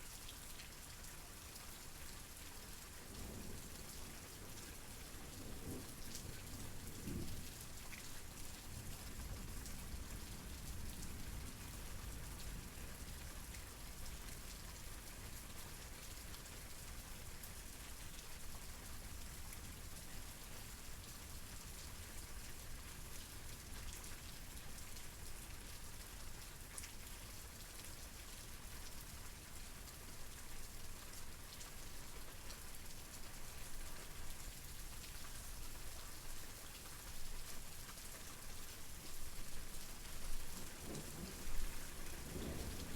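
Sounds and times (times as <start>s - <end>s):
steady rain patter: 0.0s - 42.9s.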